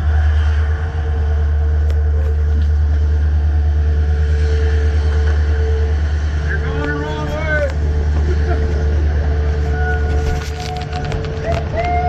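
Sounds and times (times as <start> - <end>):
constant hum: 0.0 - 12.0
train rumble: 0.0 - 12.0.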